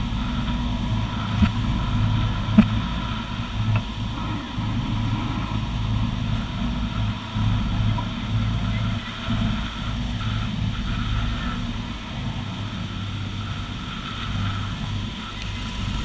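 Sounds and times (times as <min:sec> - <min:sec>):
boat engine humming: 0:00.0 - 0:16.0
rushing water: 0:00.0 - 0:16.0
wind: 0:00.0 - 0:16.0.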